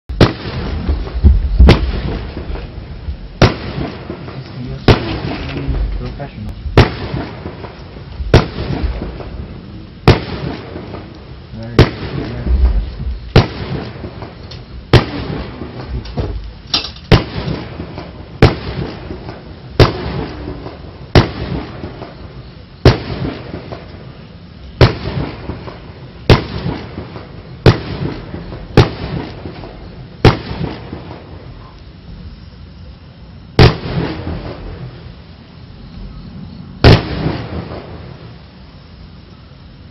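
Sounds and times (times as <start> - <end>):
firework launch bangs: 0.1 - 24.1, 24.8 - 31.5, 33.5 - 35.1, 36.8 - 38.4.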